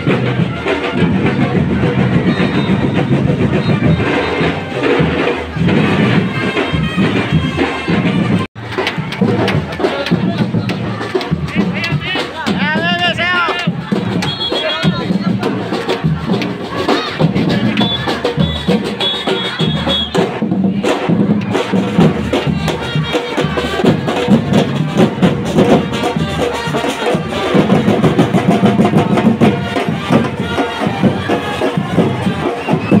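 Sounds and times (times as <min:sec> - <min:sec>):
drums: 0:00.0 - 0:33.0.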